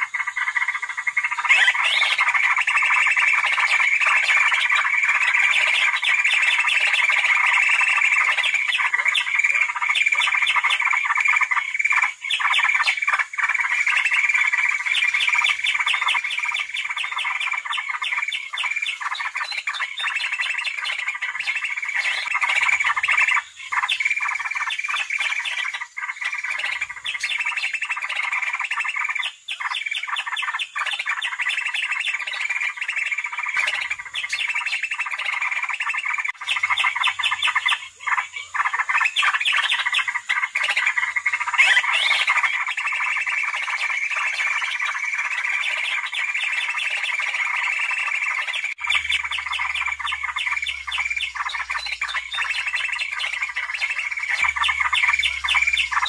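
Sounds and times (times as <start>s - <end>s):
bird chattering rapidly: 0.0s - 56.0s.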